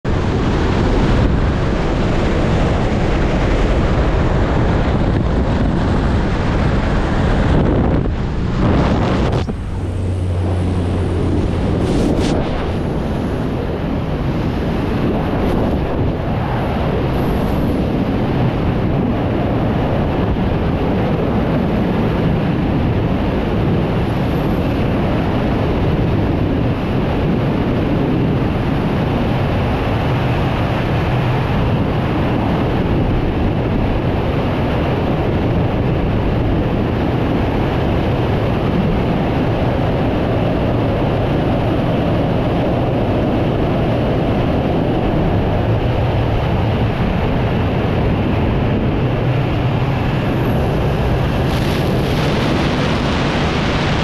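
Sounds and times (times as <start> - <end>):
wind rushing past microphone: 0.0 - 54.0.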